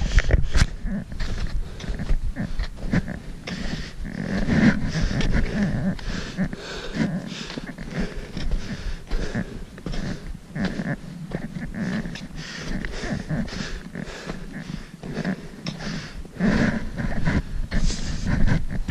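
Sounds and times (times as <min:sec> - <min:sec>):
footsteps crunching in snow: 0:00.0 - 0:18.9
heavy breathing: 0:00.0 - 0:18.9.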